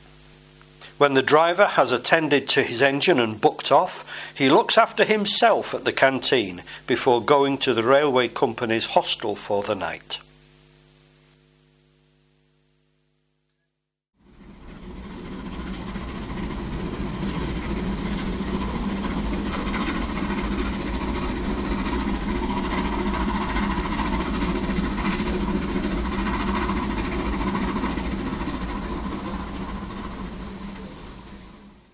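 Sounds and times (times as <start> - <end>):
train rumbling: 1.0 - 10.0, 14.2 - 31.9.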